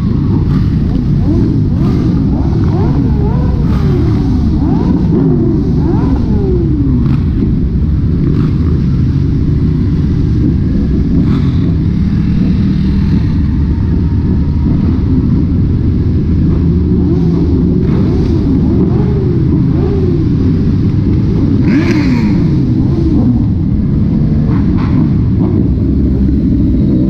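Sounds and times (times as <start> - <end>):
motorcycle engines revving: 0.0 - 27.0
motorcycle engines running: 0.0 - 27.0.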